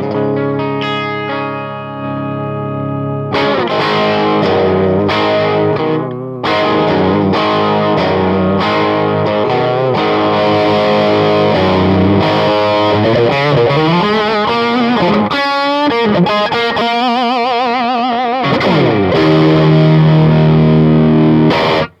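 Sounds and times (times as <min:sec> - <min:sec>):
overdriven electric guitar: 0:00.0 - 0:22.0.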